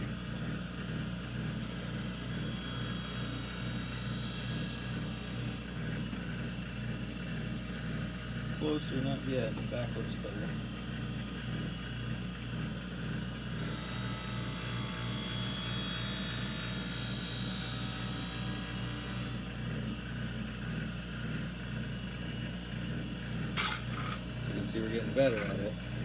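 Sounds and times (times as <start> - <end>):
grinding machine motor hum: 0.0 - 9.7, 12.4 - 26.0.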